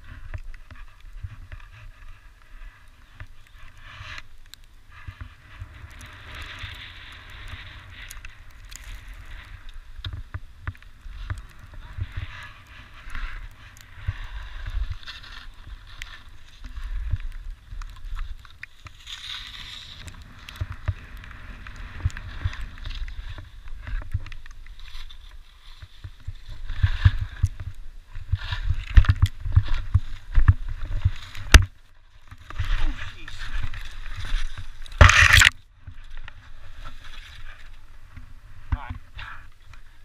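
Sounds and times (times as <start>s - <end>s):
skis scraping over snow: 0.0s - 40.0s.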